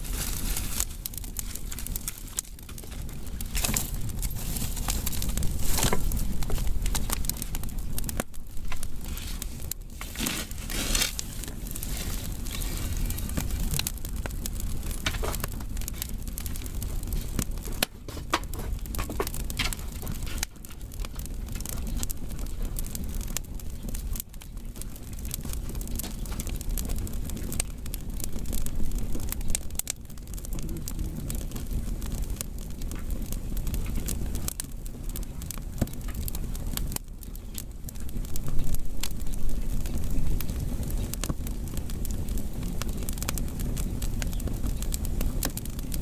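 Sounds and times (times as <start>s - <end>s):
firewood crackling and popping: 0.0s - 46.0s.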